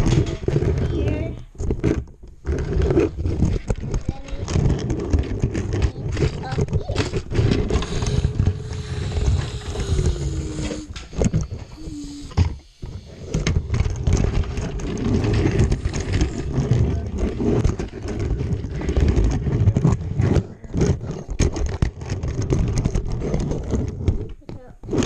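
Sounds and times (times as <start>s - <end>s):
toy wheels rolling and clattering: 0.0s - 25.0s.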